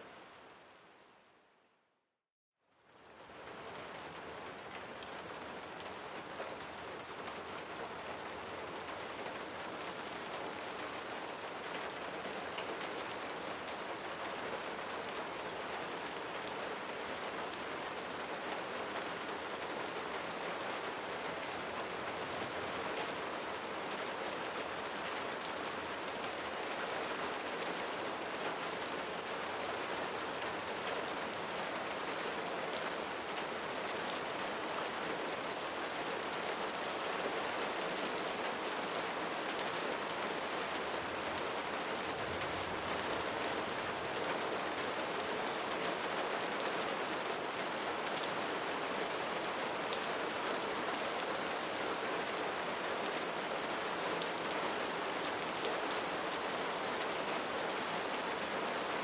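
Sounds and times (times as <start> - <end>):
rain falling on leaves: 2.7 - 59.0.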